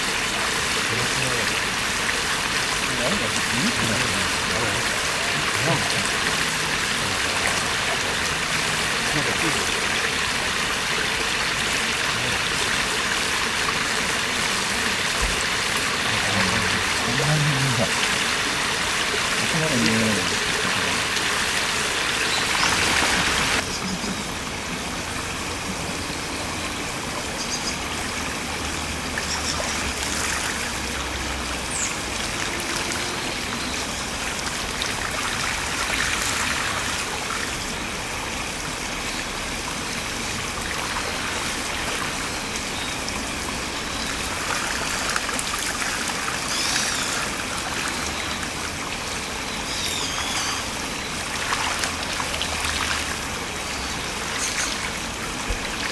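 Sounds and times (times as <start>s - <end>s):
stream running over gravel: 0.0s - 55.9s
water spilling over weir: 0.0s - 55.9s.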